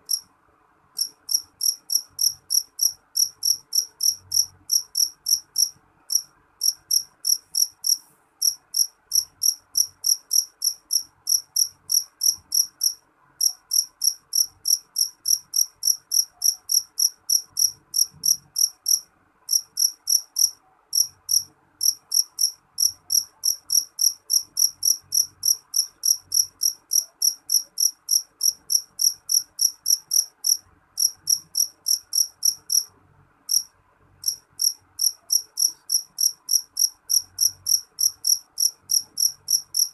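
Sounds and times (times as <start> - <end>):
field cricket chirping: 1.0 - 32.9, 33.5 - 39.9.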